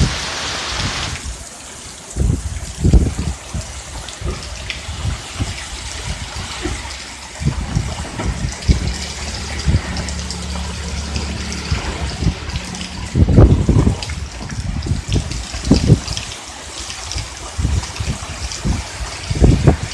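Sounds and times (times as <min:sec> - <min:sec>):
heavy rain pouring: 0:00.0 - 0:19.9
wind gusts buffeting microphone: 0:00.0 - 0:19.9.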